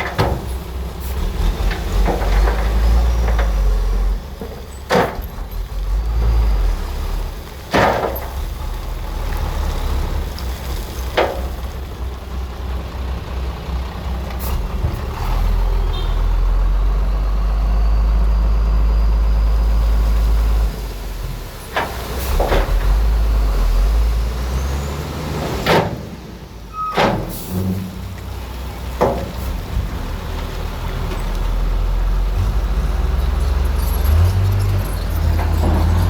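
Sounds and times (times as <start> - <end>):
bulldozer diesel engine rumbling: 0.0 - 36.0.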